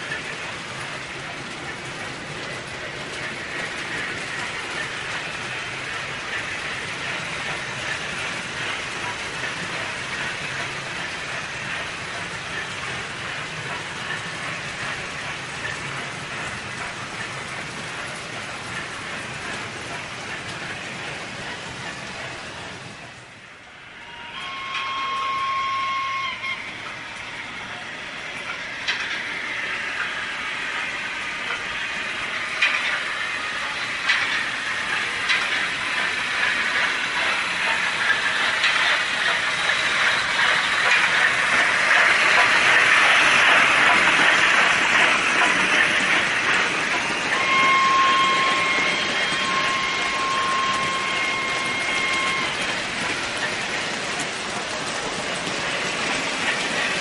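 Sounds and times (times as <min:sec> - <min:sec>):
model train rolling on track: 0:00.0 - 0:57.0.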